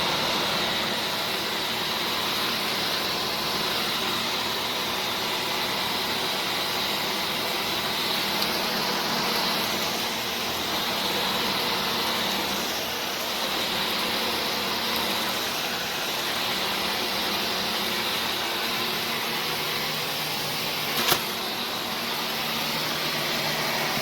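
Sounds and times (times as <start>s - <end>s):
cordless vacuum running: 0.0s - 24.0s.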